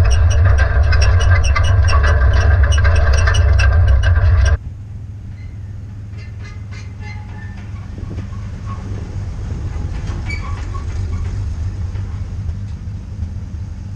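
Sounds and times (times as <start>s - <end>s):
truck engine rumbling: 0.0s - 13.9s.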